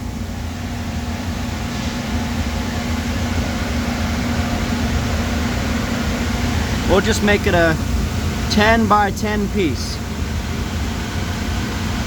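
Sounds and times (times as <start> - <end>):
shop machinery humming: 0.2 - 12.0.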